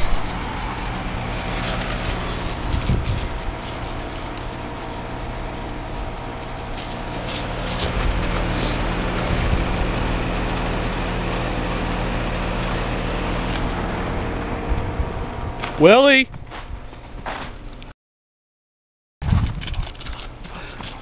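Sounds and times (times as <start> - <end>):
compressor hum: 0.0 - 17.9, 19.3 - 21.0
fan noise: 0.0 - 17.9, 19.2 - 21.0.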